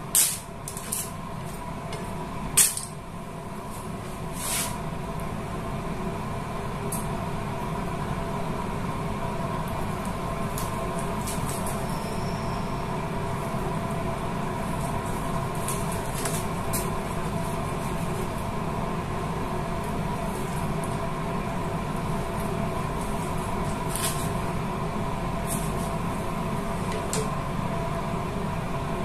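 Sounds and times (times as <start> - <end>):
machine hum with fixed tones: 0.0 - 29.0.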